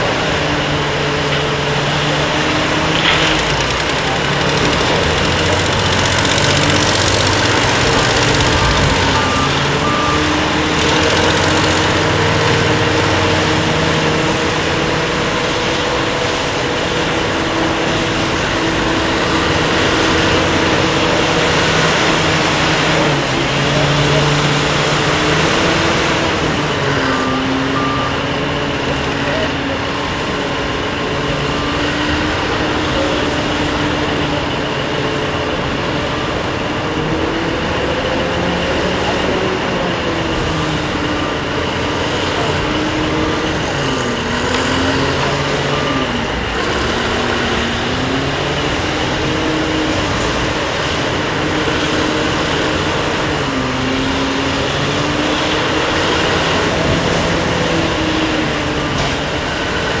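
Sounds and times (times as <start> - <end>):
diesel haul trucks running: 0.0 - 60.0
power shovel digging: 0.0 - 60.0
whining machine tone: 0.0 - 60.0.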